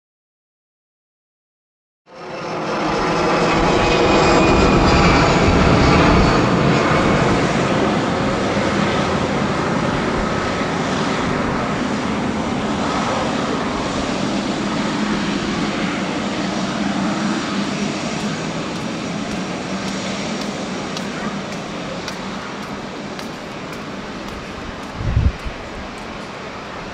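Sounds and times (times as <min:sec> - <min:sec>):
jet engine drone with fan whine: 0:02.1 - 0:26.9.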